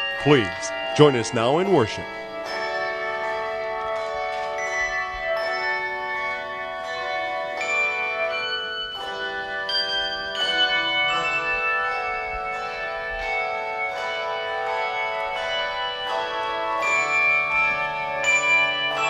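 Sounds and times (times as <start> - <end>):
tuned bells playing melody: 0.0 - 19.0.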